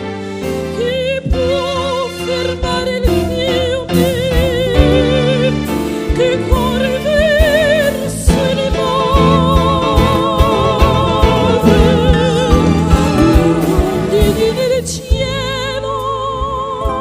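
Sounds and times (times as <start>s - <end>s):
live band playing: 0.0s - 17.0s
woman singing a ballad: 0.6s - 17.0s.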